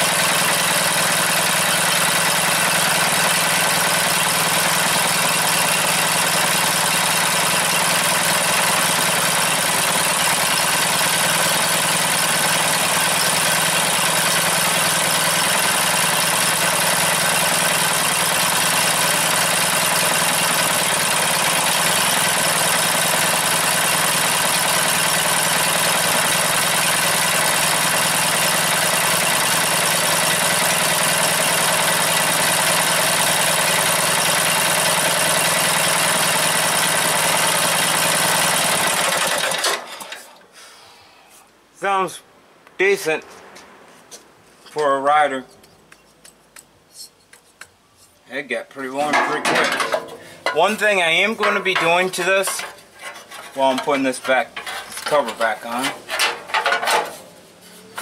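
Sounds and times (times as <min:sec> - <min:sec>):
mower engine running: 0:00.0 - 0:40.4, 0:48.7 - 0:58.0.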